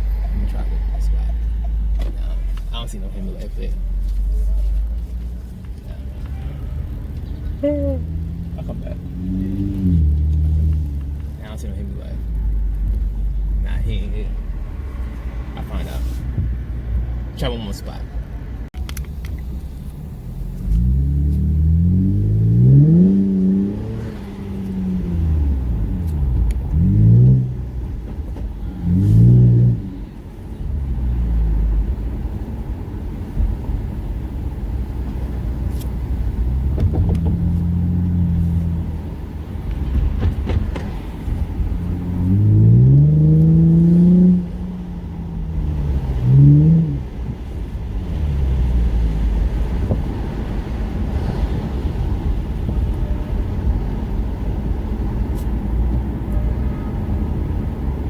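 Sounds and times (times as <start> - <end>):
car engine accelerating hard: 0.0 - 16.0, 20.0 - 58.0.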